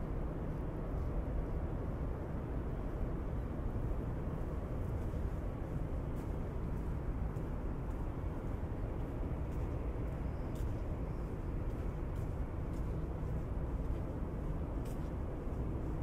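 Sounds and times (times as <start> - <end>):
low urban rumble: 0.0 - 16.0.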